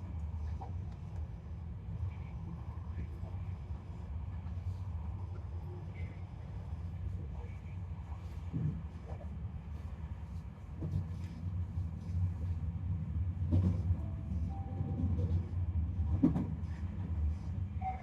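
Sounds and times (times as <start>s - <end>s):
train interior low rumble: 0.0s - 18.0s.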